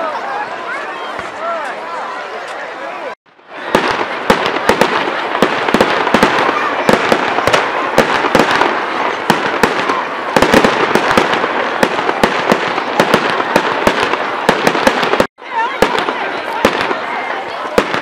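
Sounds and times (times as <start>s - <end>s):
fireworks bangs: 1.0s - 1.5s, 3.3s - 18.0s.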